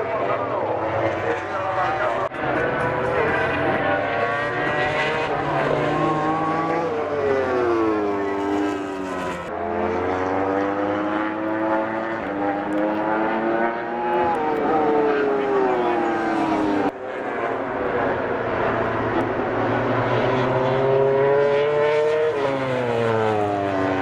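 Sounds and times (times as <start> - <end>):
race motorbikes passing at high revs: 0.0 - 24.0.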